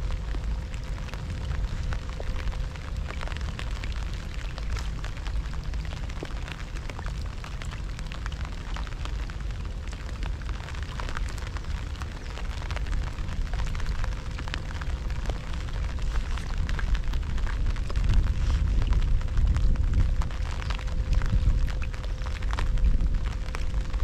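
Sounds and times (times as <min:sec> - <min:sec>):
heavy rain falling: 0:00.0 - 0:24.0
wind buffeting microphone: 0:00.0 - 0:24.0.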